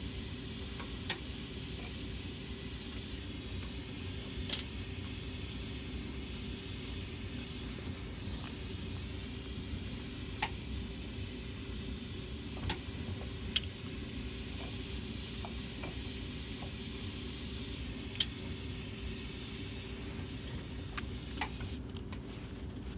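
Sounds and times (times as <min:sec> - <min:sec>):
torch flame hissing: 0:00.0 - 0:21.8.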